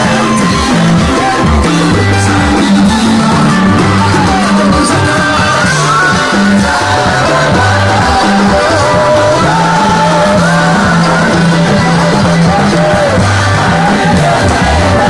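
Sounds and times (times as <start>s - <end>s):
bass line: 0.0s - 15.0s
person singing: 0.0s - 15.0s.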